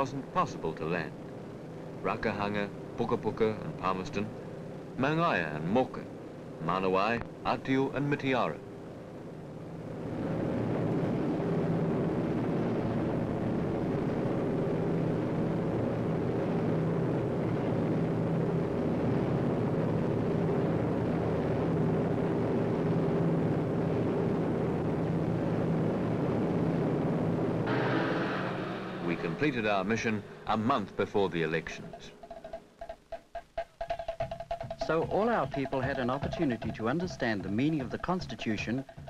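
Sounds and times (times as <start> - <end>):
propeller aircraft engines droning: 0.0 - 39.0.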